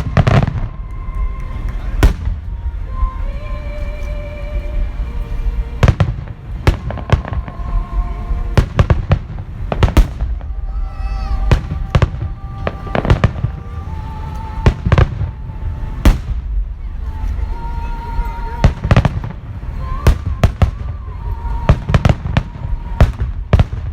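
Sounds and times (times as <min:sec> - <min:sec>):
fireworks bursting with loud bangs: 0:00.0 - 0:03.4, 0:04.4 - 0:23.9
low rumble: 0:00.0 - 0:23.9
music: 0:00.0 - 0:23.9.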